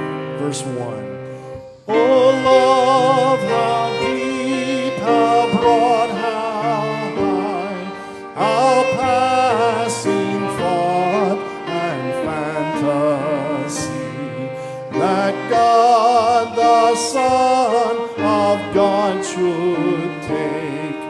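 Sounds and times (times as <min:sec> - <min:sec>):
organ chords: 0:00.0 - 0:20.9
voices singing a hymn: 0:01.9 - 0:21.0.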